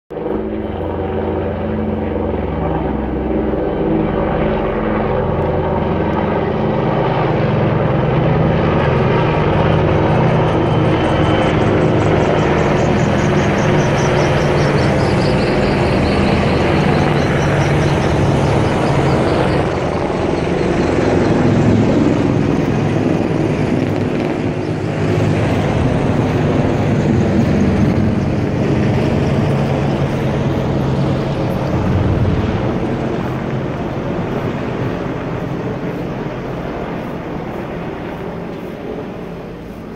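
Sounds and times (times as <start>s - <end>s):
helicopters flying overhead: 0.1s - 39.9s.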